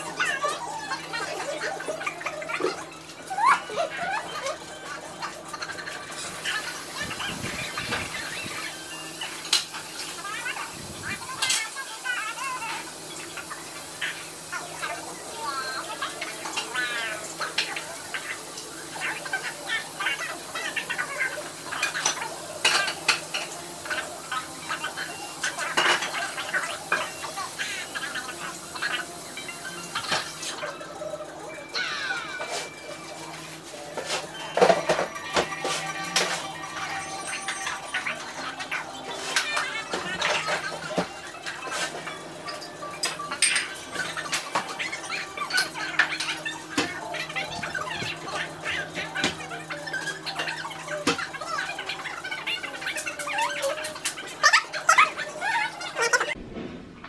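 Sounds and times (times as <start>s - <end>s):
dishes and utensils clattering: 0.0s - 56.4s.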